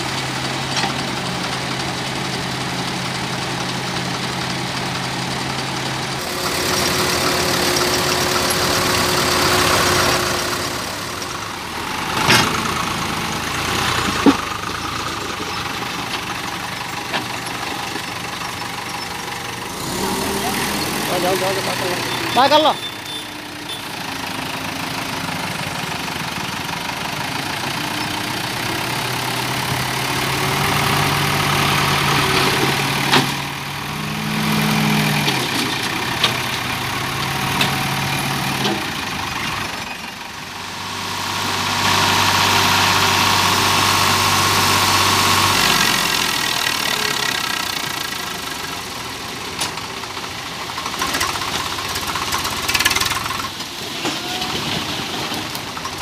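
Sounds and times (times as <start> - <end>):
diesel engines revving: 0.0 - 56.0.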